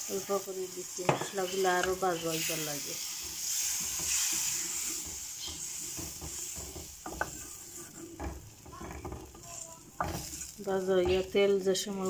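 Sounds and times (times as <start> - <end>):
masala sizzling in pan: 0.0 - 12.0
wooden spoon scraping pan: 0.9 - 12.0.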